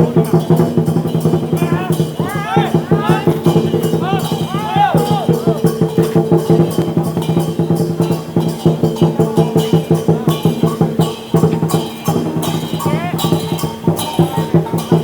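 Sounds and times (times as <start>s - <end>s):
big drum beating fast: 0.0s - 15.0s.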